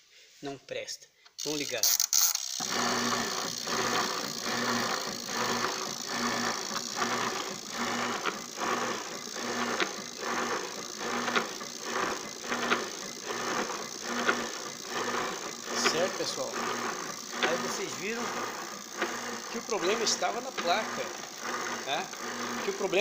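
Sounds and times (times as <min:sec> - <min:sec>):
washing machine motor humming: 0:02.4 - 0:23.0.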